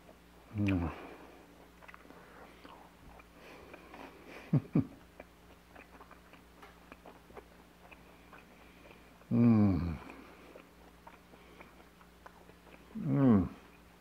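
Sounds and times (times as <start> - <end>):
hummed sounds with full mouth: 0.0 - 14.0
person chewing bacon: 0.0 - 14.0.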